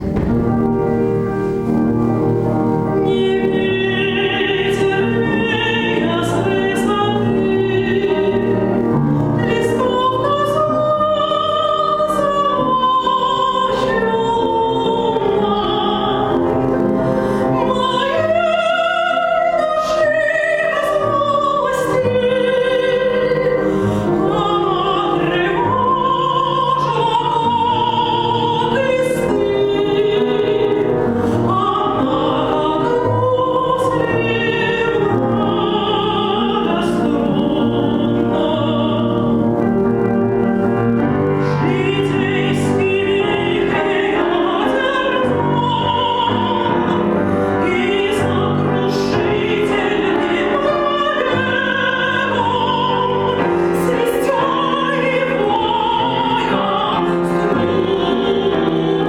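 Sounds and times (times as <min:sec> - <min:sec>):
piano accompaniment: 0:00.0 - 0:59.0
woman singing operatically: 0:03.0 - 0:39.5, 0:41.4 - 0:59.0.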